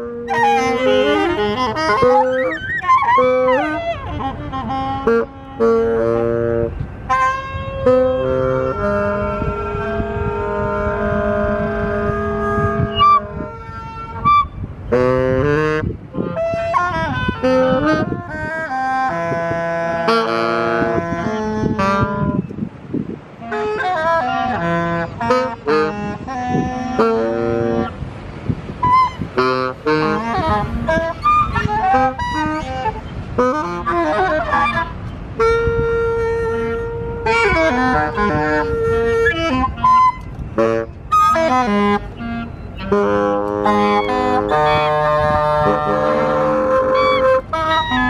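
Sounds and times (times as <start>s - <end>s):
saxophones improvising: 0.0s - 48.0s.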